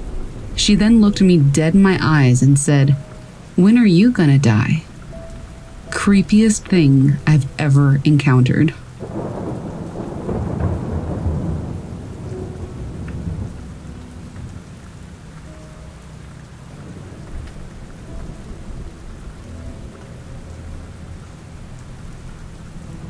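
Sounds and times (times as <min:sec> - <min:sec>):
low rolling thunder rumble: 0:00.0 - 0:08.0, 0:08.7 - 0:23.0
steady rain: 0:00.0 - 0:23.0.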